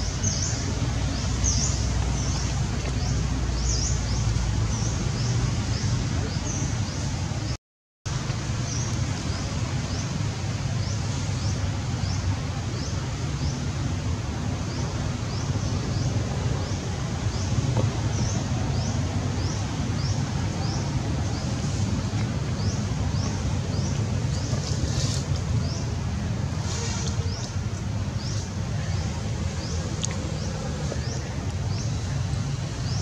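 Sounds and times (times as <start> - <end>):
low rumble and hiss: 0.0 - 33.0.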